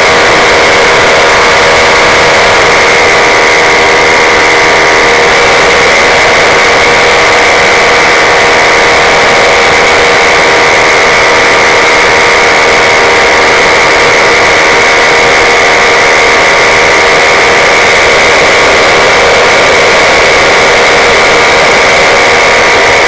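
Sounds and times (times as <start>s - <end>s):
paramotor engine and propeller: 0.0s - 23.0s.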